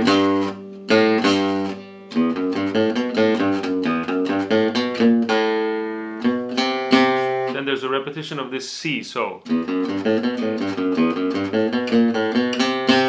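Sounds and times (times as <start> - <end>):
acoustic guitar picked notes: 0.0 - 13.0.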